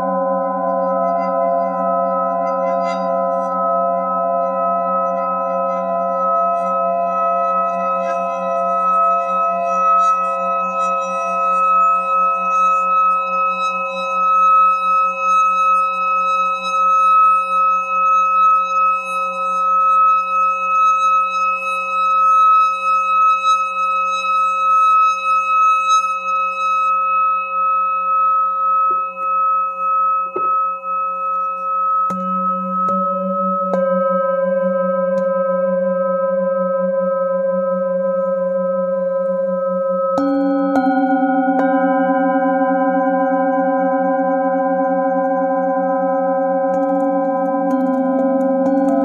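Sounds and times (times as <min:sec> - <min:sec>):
singing bowl ringing hum: 0:00.0 - 0:49.0.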